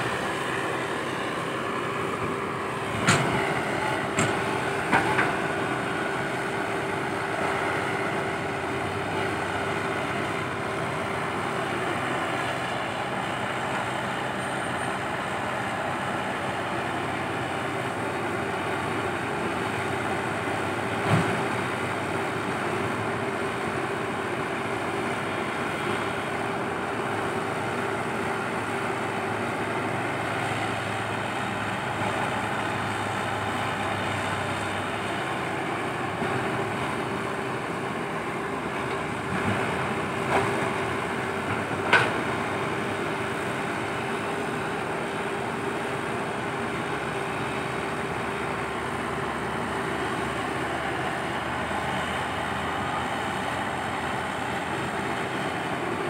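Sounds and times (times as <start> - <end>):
excavator diesel engine working: 0.0 - 56.0.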